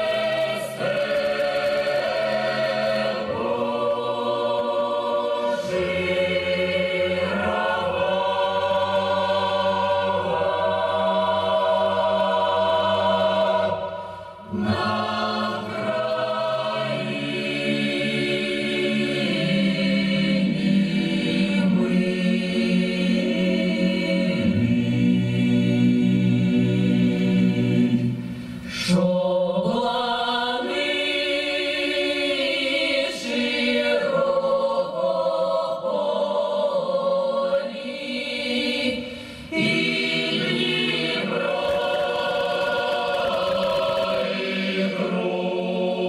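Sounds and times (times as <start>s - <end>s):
choir singing long chords: 0.0s - 46.0s.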